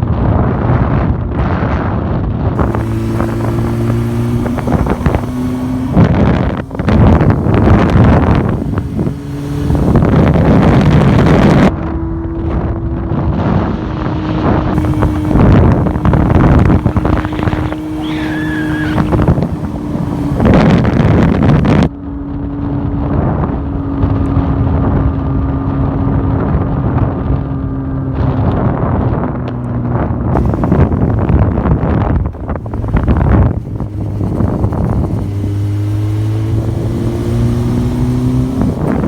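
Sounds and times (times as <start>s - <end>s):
wind buffeting on microphone: 0.0s - 11.8s, 12.4s - 24.0s, 28.1s - 39.0s
quad bike engine at speed: 0.0s - 39.0s.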